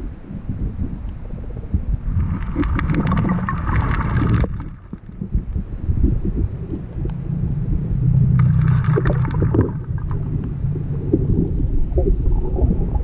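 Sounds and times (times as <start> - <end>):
muffled underwater rumble: 0.0 - 13.0
gurgling bubbles: 1.1 - 13.0.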